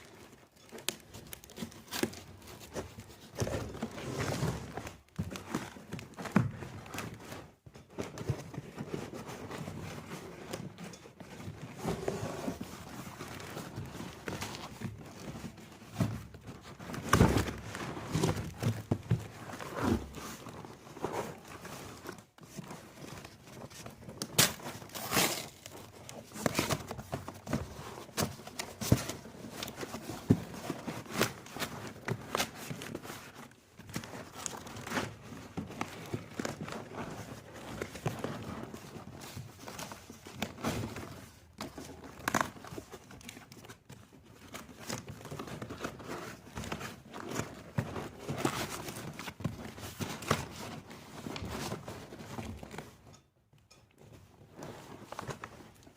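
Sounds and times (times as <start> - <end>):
packing material crinkling: 0.0 - 7.6, 11.4 - 52.9.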